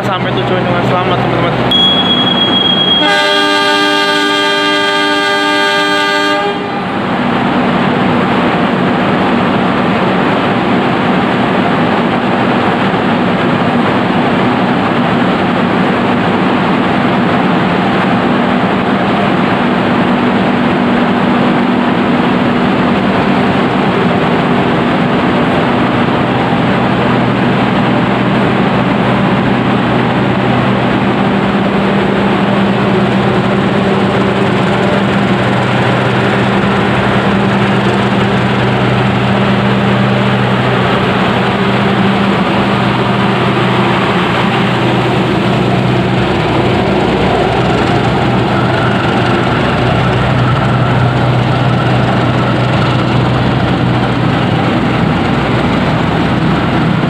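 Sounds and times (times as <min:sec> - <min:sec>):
diesel engine hum: 0:00.0 - 0:57.0
train carriages rolling on rails: 0:00.0 - 0:57.0.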